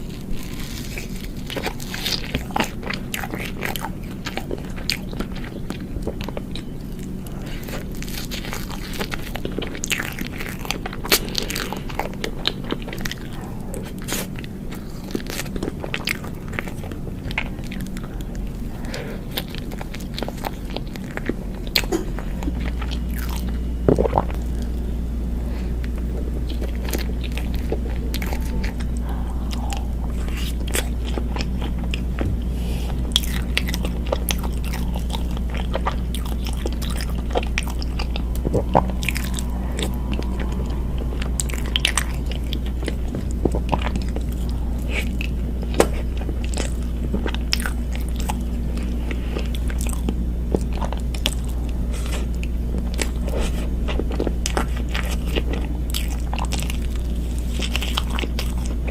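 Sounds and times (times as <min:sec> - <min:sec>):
biting and chewing: 0:00.0 - 0:58.9
steady low hum: 0:00.0 - 0:58.9.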